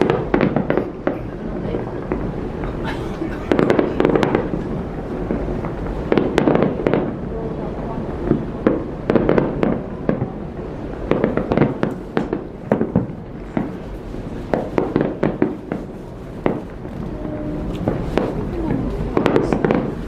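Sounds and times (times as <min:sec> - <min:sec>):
fireworks bangs and crackles: 0:00.0 - 0:20.0
steady low rumble: 0:00.0 - 0:20.0.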